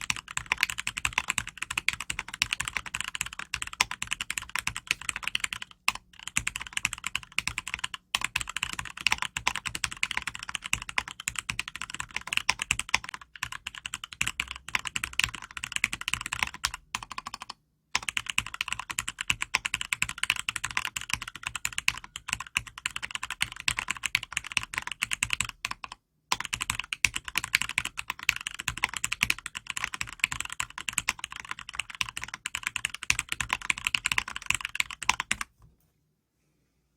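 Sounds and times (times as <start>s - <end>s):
mechanical keyboard typing: 0.0s - 35.5s.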